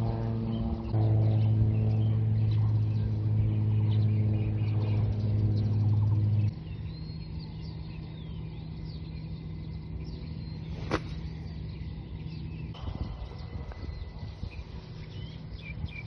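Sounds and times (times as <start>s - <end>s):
birds chirping: 0.0s - 16.0s
wind rumbling on microphone: 0.0s - 16.0s.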